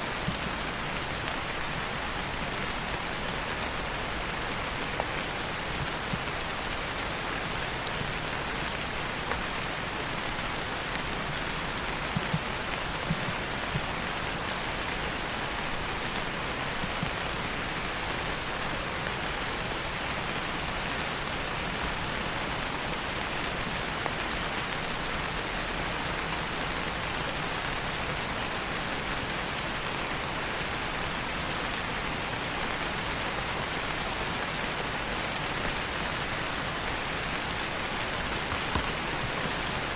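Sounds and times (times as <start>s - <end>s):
loud raindrops: 0.0s - 39.9s
steady rain falling: 0.0s - 39.9s.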